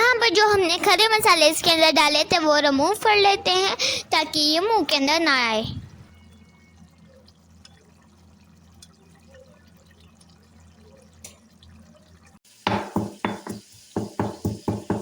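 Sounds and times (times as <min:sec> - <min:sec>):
faint low hum: 0:00.0 - 0:12.4.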